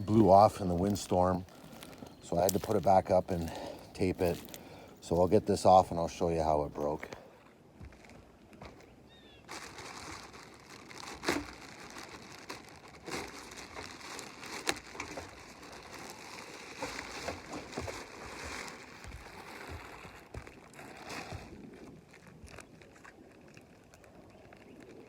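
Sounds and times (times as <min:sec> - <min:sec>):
plastic bag crinkling: 0:00.0 - 0:05.4, 0:09.4 - 0:25.0.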